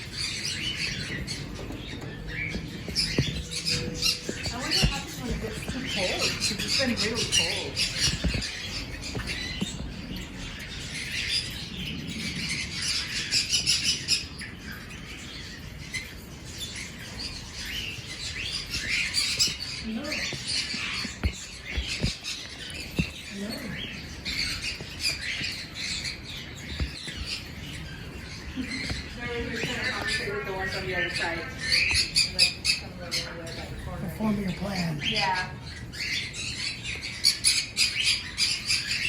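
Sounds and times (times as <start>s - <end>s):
caged birds chirping: 0.0s - 39.0s.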